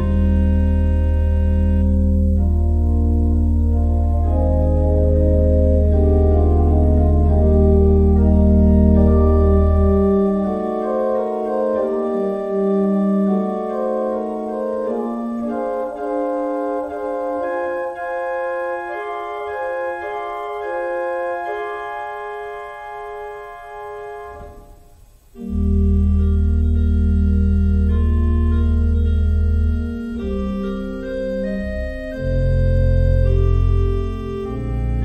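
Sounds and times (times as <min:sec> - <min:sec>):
deep bass organ note: 0:00.0 - 0:18.1, 0:24.2 - 0:35.0
organ playing sustained chords: 0:00.0 - 0:35.0.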